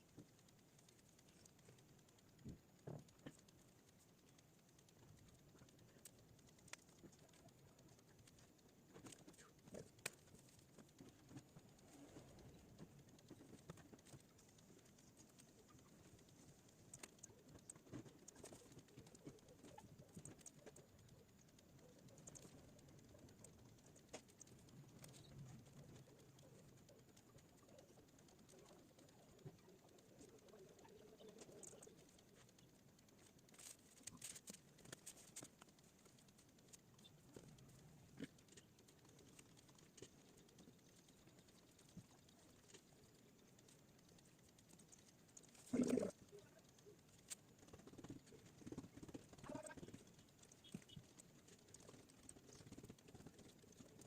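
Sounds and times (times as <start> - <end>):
soft clicks: 0.0 - 54.0.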